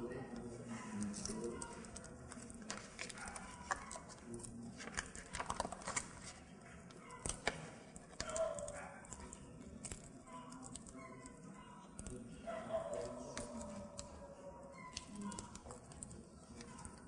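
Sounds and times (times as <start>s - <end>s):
faint voices murmuring: 0.0s - 17.0s.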